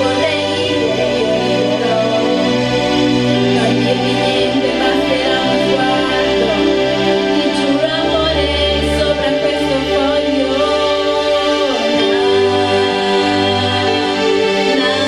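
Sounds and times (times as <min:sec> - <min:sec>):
woman singing into microphone: 0:00.0 - 0:15.0.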